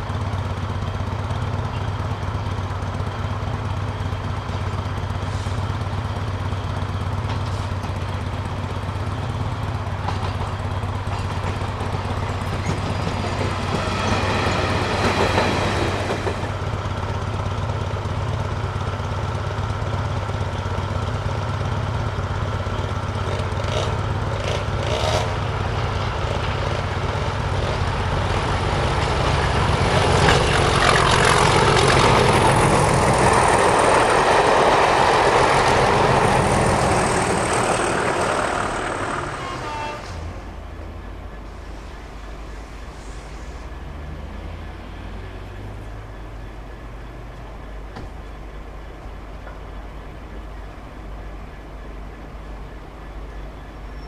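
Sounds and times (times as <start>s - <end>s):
diesel locomotive engine throbbing: 0.0s - 54.0s
train wheel noise: 0.0s - 54.0s.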